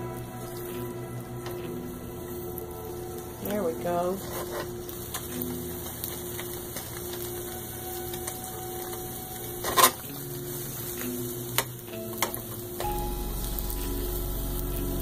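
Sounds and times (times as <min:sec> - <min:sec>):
eggs sizzling in a pan: 0:00.0 - 0:15.0.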